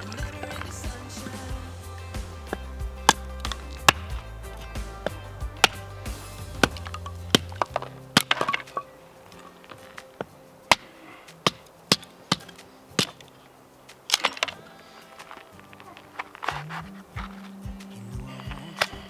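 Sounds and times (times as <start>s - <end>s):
campfire crackling and popping: 0.0s - 19.0s
quiet background music: 0.0s - 19.0s.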